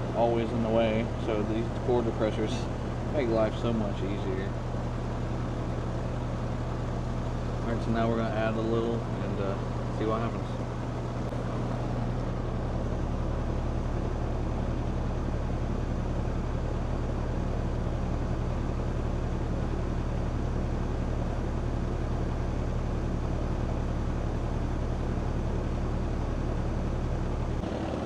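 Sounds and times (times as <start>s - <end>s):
compressor hum: 0.0s - 28.0s
fan noise: 0.0s - 28.0s.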